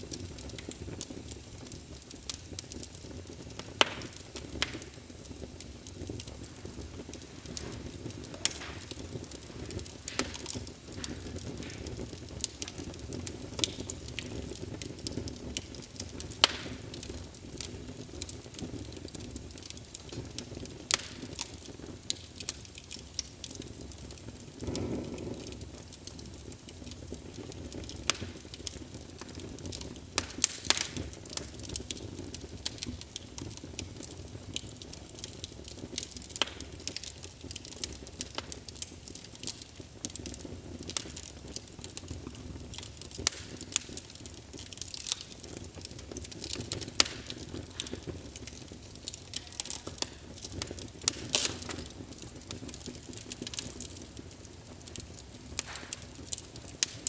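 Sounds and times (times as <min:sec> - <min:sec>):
logs crackling and popping: 0:00.0 - 0:57.0
low rush of flame: 0:00.0 - 0:57.0.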